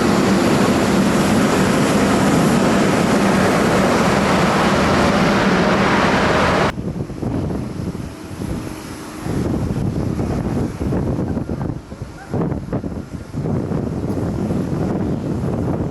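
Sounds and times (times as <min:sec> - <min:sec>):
jet engines roaring: 0:00.0 - 0:15.9
wind on microphone: 0:00.0 - 0:15.9.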